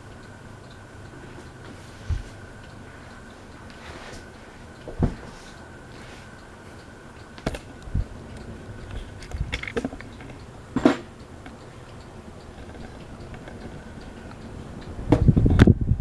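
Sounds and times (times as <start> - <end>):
ceiling fan humming: 0.0 - 16.0
faint constant whine: 0.0 - 16.0.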